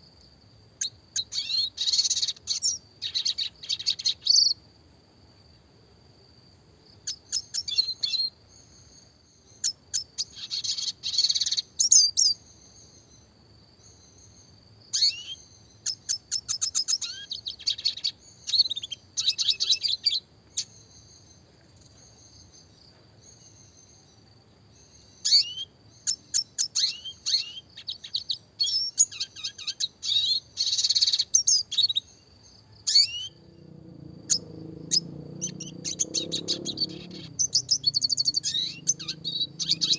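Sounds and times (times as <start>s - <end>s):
bird twittering trills: 0.8s - 4.6s, 7.0s - 39.9s.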